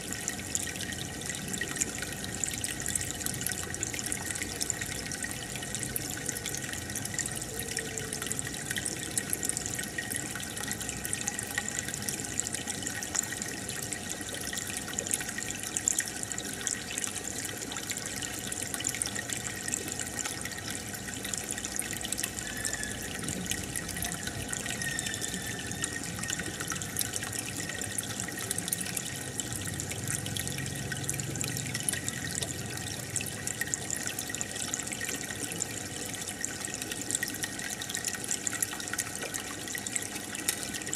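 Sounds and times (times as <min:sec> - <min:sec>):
aquarium water bubbling: 0:00.0 - 0:40.9.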